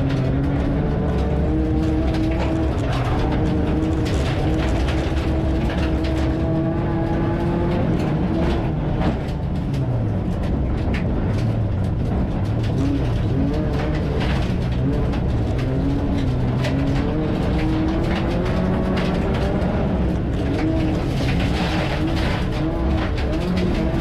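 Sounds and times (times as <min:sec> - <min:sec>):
car engine running hard: 0:00.0 - 0:24.0
gravel rattling against car body: 0:00.0 - 0:24.0.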